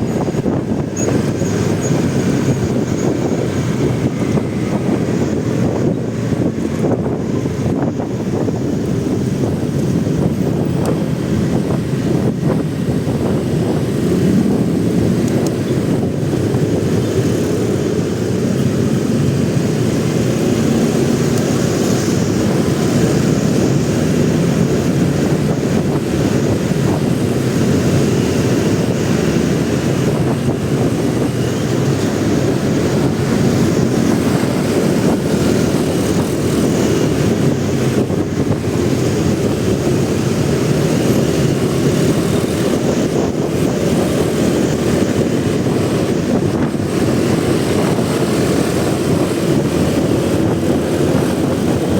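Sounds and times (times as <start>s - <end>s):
motorcycle engine running: 0.0s - 51.9s
wind rush on microphone: 0.0s - 51.9s.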